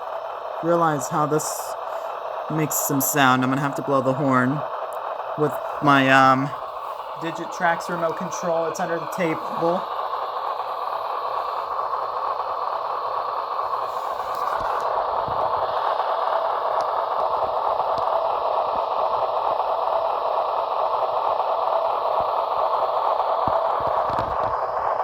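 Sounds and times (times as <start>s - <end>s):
diesel engine rumble through small speaker: 0.0s - 25.0s.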